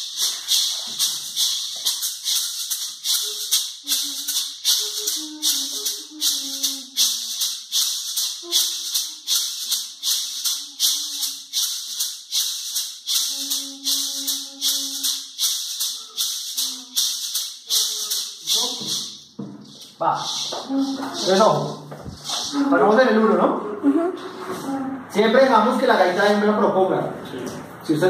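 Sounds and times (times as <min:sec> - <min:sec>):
maracas shaken: 0:00.0 - 0:26.3.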